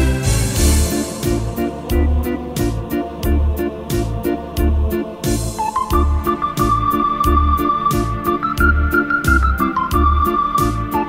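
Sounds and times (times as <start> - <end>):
electronic organ music: 0.0 - 11.0.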